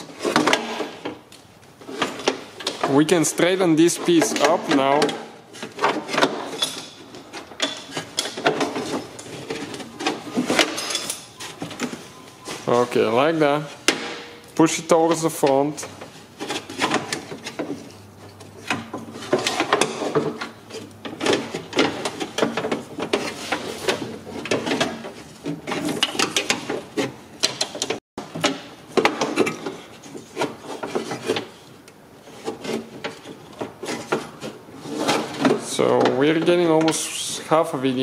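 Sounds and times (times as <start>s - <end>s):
metal scraping and clunking on panel: 0.0s - 37.1s.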